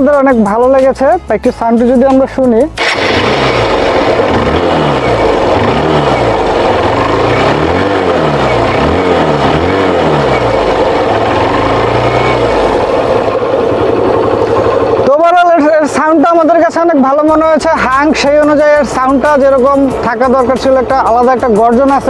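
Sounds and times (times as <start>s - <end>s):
motorcycle engine revving: 2.8s - 22.0s.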